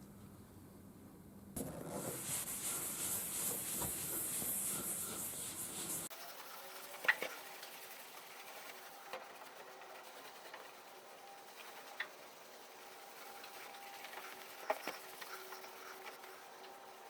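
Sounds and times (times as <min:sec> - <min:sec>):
cloth rubbing on metal: 0:01.6 - 0:16.5.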